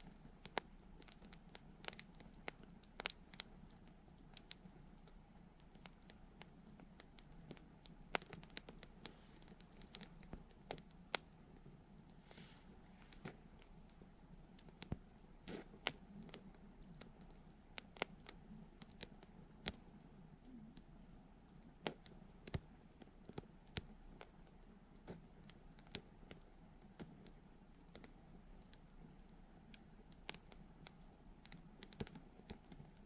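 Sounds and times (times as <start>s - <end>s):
campfire crackling: 0.0s - 33.0s
faint steady background noise: 0.0s - 33.0s.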